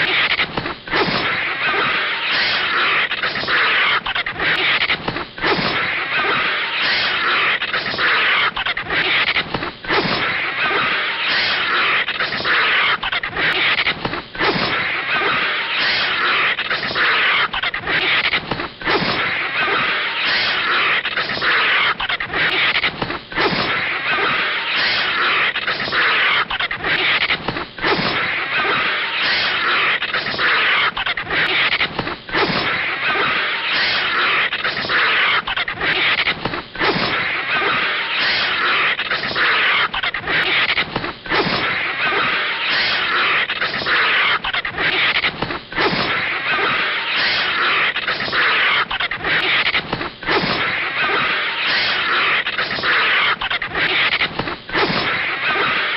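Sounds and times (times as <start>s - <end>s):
harsh rasping animal noise: 0.0s - 55.9s.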